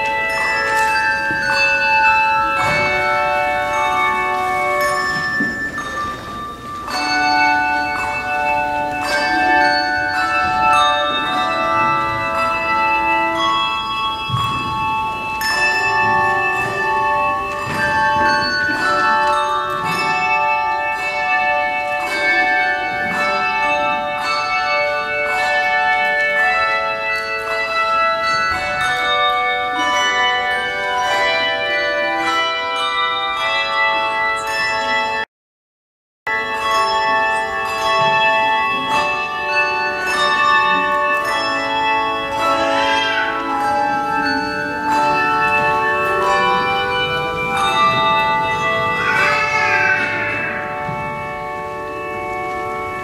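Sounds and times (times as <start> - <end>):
tuned bells melody: 0.0 - 35.3, 36.3 - 53.0.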